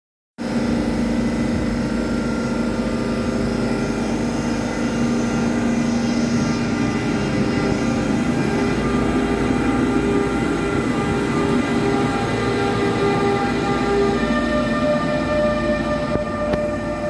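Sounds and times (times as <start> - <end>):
electric locomotive hum and whine: 0.4 - 17.0.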